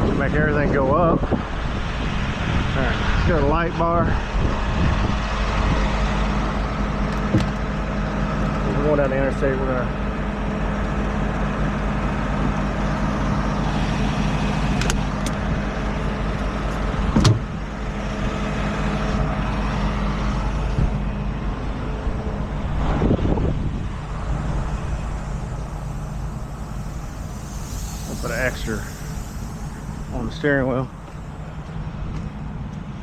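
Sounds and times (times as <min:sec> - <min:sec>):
truck engine idling: 0:04.5 - 0:33.0.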